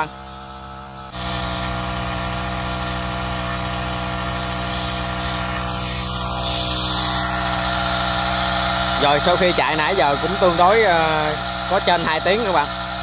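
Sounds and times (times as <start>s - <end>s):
brush-cutter engine running: 0.0s - 13.0s.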